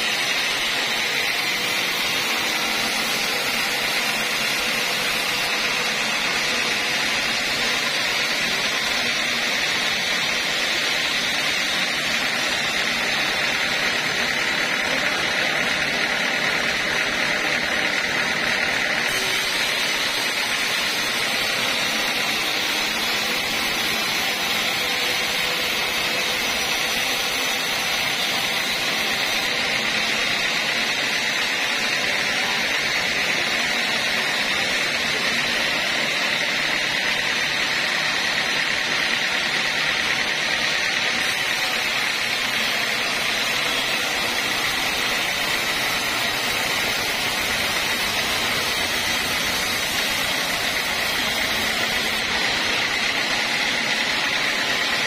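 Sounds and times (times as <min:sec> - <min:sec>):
band saw cutting a log: 0:00.0 - 0:55.0.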